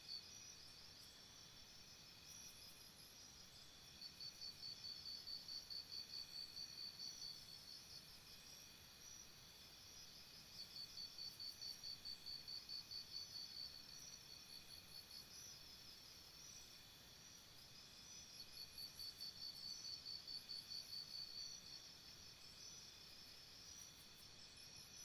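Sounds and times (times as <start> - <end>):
high-pitched cricket chirping: 0.0 - 25.0.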